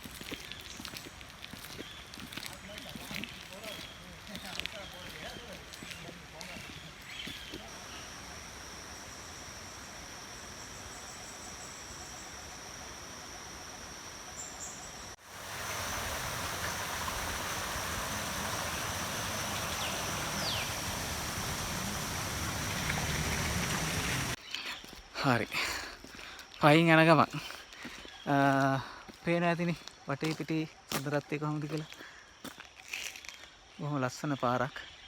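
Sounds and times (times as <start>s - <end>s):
background hiss: 0.0s - 30.7s
insects droning: 0.2s - 35.0s.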